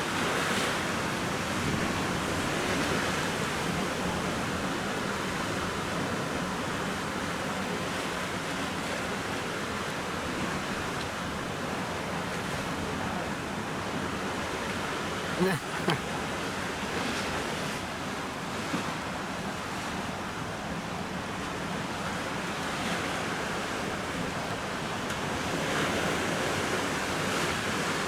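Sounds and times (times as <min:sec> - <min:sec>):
ocean surf on sandy beach: 0:00.0 - 0:28.0.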